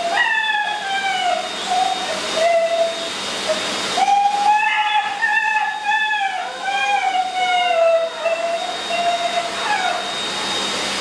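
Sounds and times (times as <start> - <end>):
pet dryer blowing air: 0.0 - 11.0.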